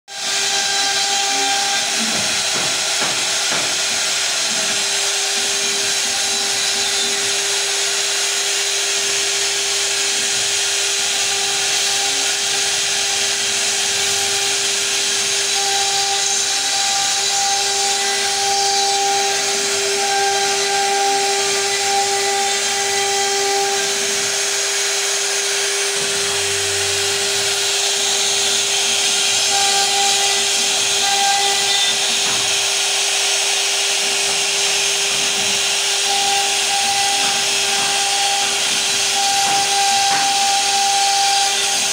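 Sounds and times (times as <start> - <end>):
router spindle whine: 0.1 - 41.9.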